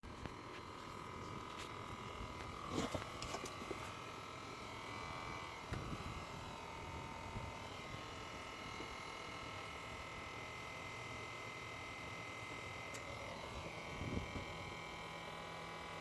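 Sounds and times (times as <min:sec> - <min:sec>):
small electric pump whining: 0:00.0 - 0:16.0.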